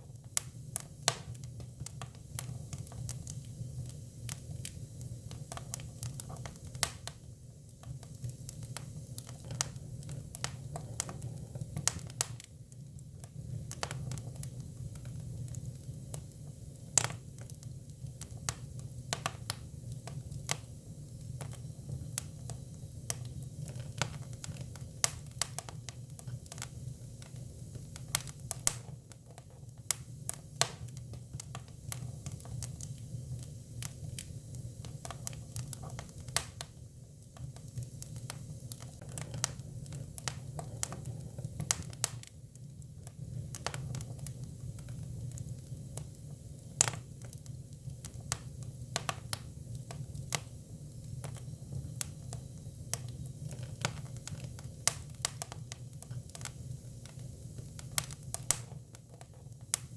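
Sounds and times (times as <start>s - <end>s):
low rumble of flame: 0.0s - 59.9s
firewood crackling and popping: 0.1s - 59.9s.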